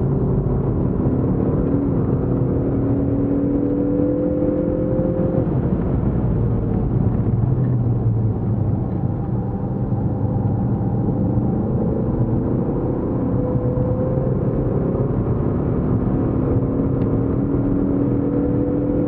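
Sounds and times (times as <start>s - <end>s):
car engine from inside cabin: 0.0s - 19.0s
road and tyre noise: 0.0s - 19.0s.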